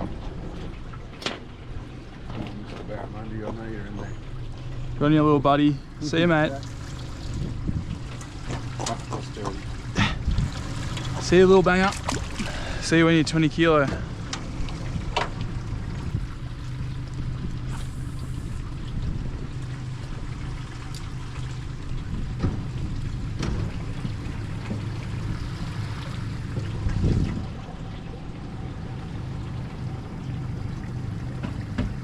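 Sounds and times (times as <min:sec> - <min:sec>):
small boat motor humming: 0:00.0 - 0:32.0
water splashing around hull: 0:00.0 - 0:32.0.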